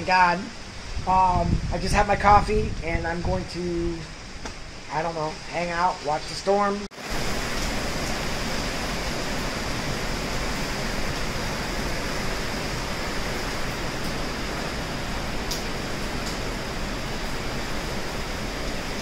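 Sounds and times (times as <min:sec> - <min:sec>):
heavy rain and wind: 0:00.0 - 0:19.0.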